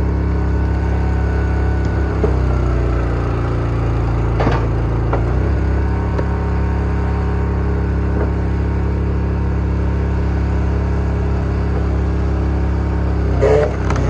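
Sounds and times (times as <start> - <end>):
log splitter engine running: 0.0 - 14.0.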